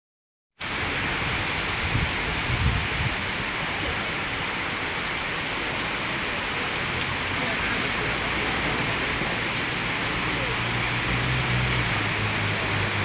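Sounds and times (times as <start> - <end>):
steady rain: 0.6 - 13.0.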